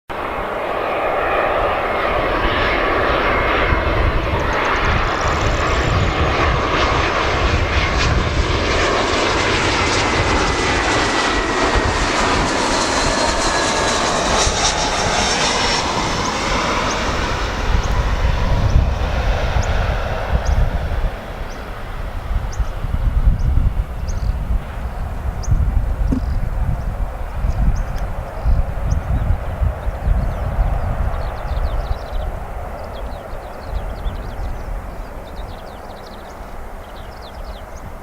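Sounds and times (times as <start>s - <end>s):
jet airliner passing: 0.1s - 38.0s.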